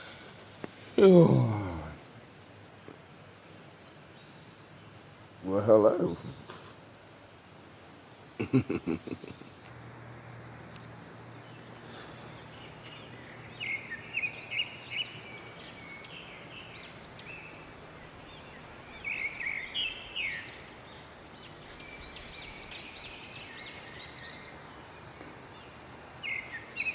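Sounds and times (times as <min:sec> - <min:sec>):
songbirds chirping: 0:00.0 - 0:26.9.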